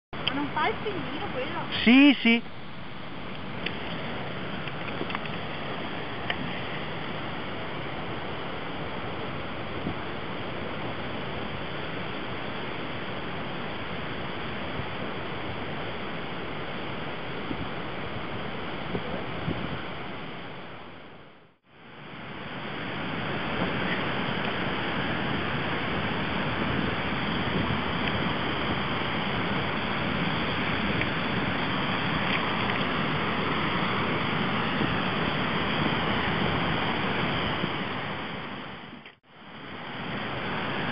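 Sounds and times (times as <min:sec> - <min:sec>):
river rushing over weir: 0:00.2 - 0:40.9.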